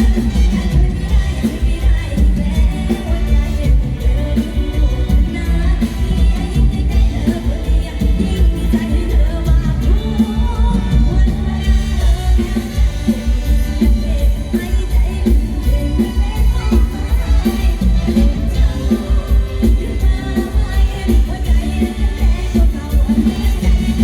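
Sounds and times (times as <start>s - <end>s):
heavy pulsing bass beat: 0.0s - 24.0s
live band music: 0.0s - 24.0s
person singing: 0.0s - 24.0s.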